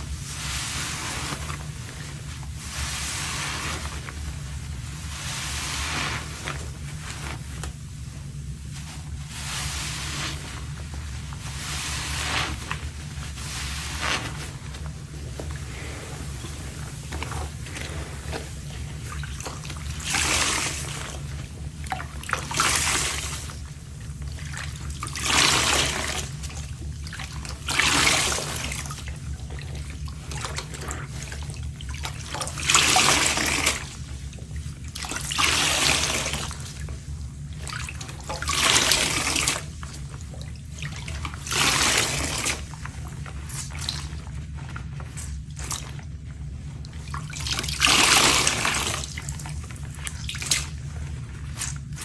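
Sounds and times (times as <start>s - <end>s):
running water: 0.0s - 7.9s, 8.6s - 52.0s
sponge squelching: 0.0s - 52.0s.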